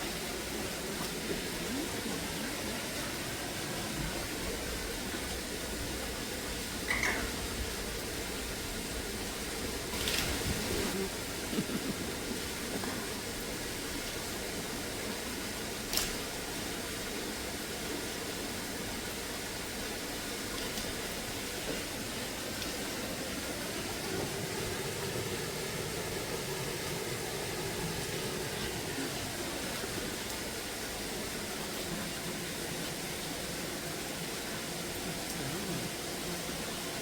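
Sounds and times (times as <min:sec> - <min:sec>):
rain falling: 0:00.0 - 0:37.0.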